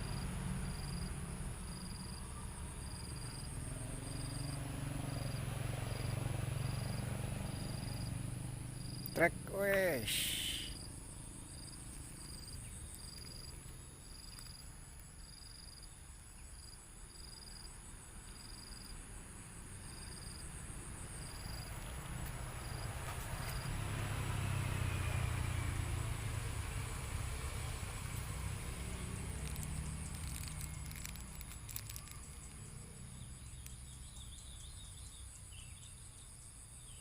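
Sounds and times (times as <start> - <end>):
insects chirping in pulses: 0.0 - 37.0.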